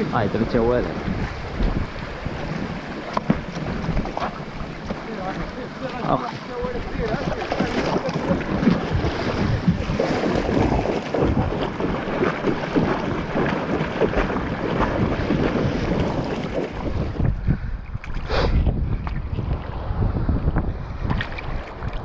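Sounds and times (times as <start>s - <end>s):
sea water splashing: 0.0s - 22.0s
wind buffeting microphone: 0.0s - 22.0s.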